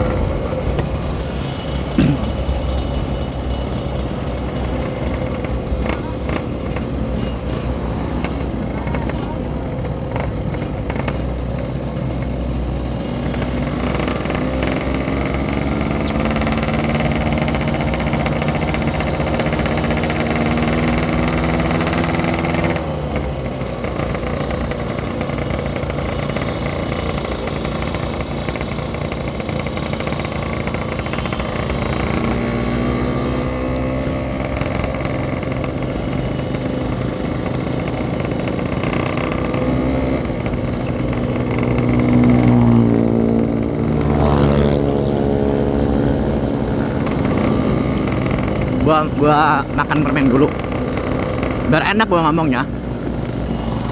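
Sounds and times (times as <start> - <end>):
two-stroke motorcycle engine: 0.0 - 53.9.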